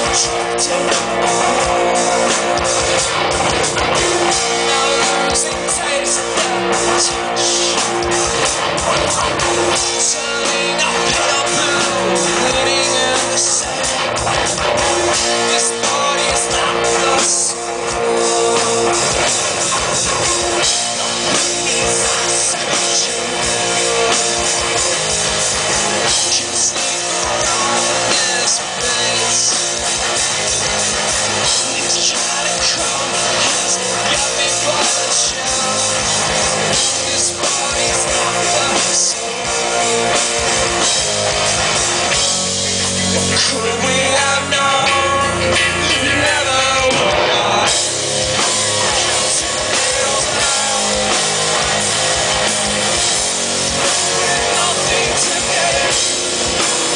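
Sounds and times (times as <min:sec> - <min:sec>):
drum kit: 0:00.0 - 0:56.9
electric bass: 0:00.0 - 0:56.9
electric guitar: 0:00.0 - 0:56.9.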